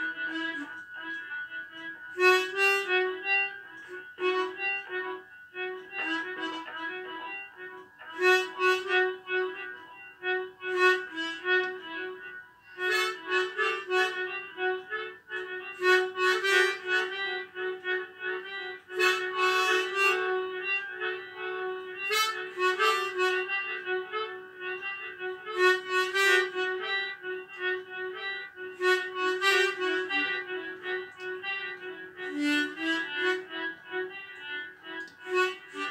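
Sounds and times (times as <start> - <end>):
harmonica melody: 0.0 - 35.9.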